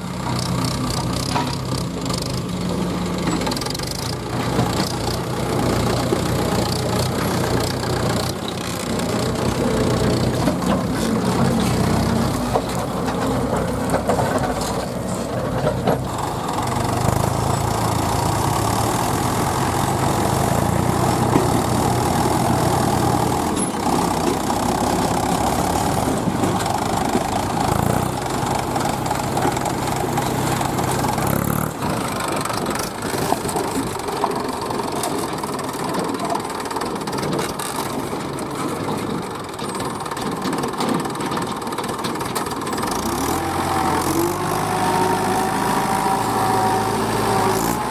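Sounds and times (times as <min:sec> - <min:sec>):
heavy machinery diesel engine: 0:00.0 - 0:47.9.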